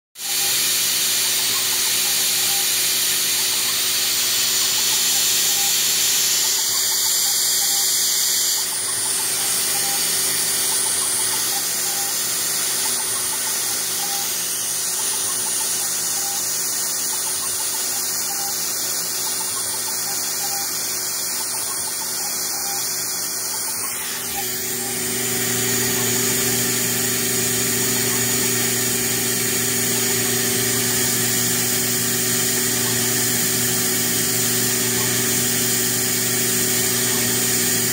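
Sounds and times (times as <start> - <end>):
router spindle running: 0.2 - 37.9.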